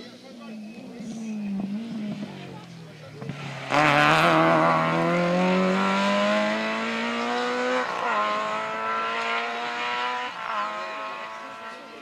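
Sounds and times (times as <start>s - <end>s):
rally car engine accelerating: 0.5s - 12.0s.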